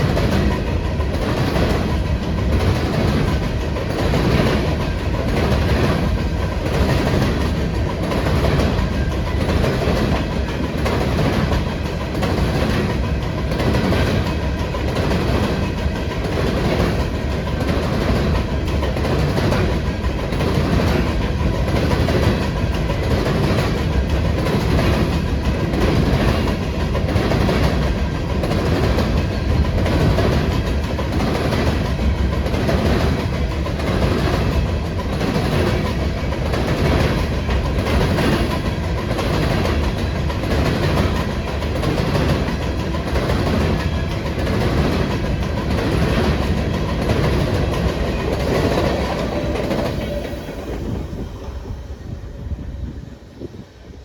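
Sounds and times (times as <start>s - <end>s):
train wheels clacking over rail joints: 0.0s - 51.9s.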